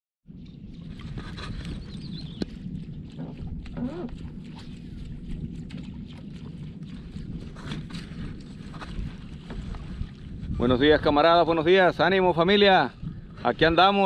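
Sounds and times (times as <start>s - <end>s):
rumble of water and wind: 0.2s - 14.0s.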